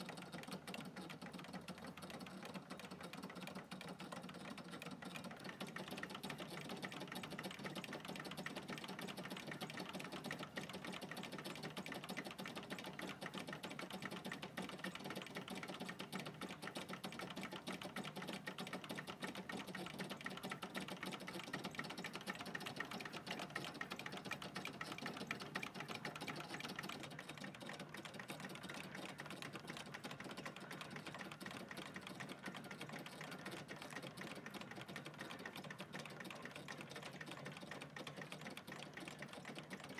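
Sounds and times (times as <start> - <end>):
toy engines light metallic clatter: 0.0 - 39.9.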